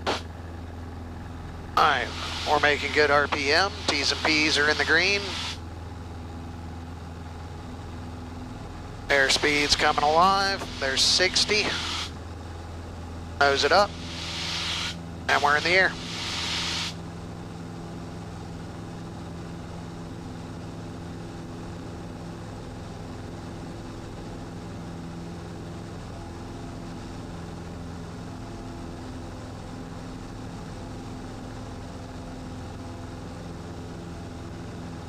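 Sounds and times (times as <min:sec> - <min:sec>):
propeller plane engine at full power: 0:00.0 - 0:35.0.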